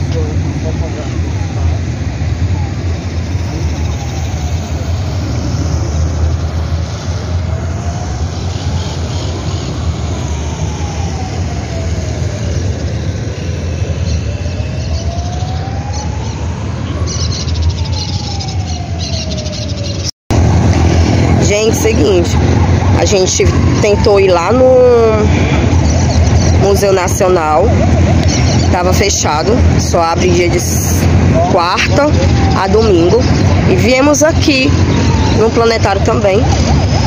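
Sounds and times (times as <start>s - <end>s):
low rumble of road traffic: 0.0s - 37.0s
siren wailing: 0.0s - 37.0s.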